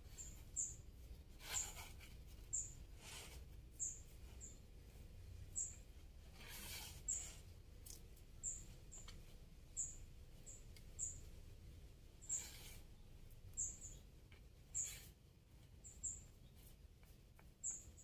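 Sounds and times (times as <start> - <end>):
small bird chirping: 0.0 - 16.8, 17.4 - 18.0.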